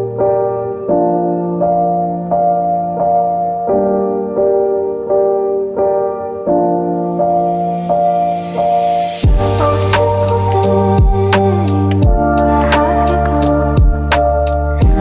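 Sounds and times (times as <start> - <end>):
keyboard playing sustained chords: 0.0 - 15.0.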